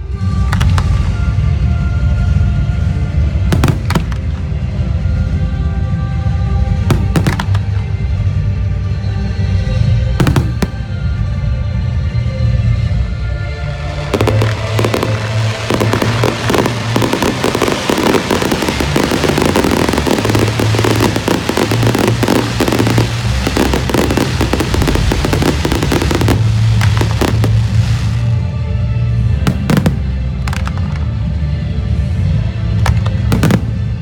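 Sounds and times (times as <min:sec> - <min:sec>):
music: 0:00.0 - 0:34.0
fireworks bangs and crackles: 0:00.1 - 0:34.0.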